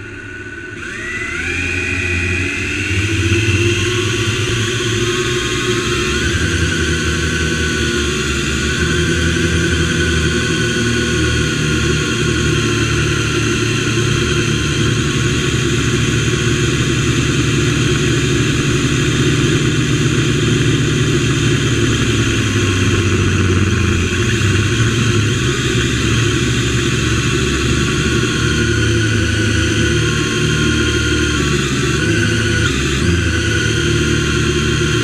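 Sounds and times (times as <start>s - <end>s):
drone motors whining: 0.0s - 35.0s
low motor hum: 0.0s - 35.0s.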